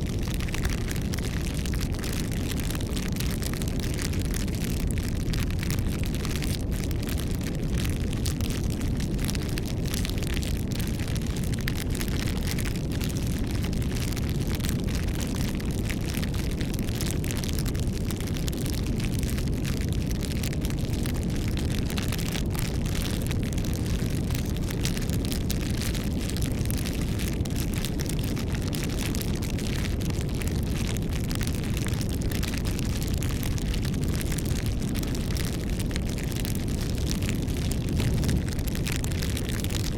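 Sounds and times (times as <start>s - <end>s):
bonfire flames rumbling: 0.0s - 39.9s
wood crackling and popping: 0.0s - 39.9s.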